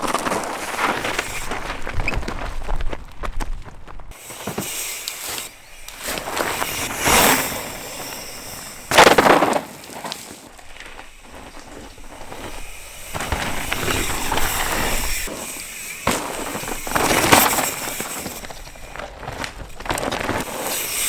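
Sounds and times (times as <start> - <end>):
bike tyres skidding on stony trail: 0.0 - 21.0.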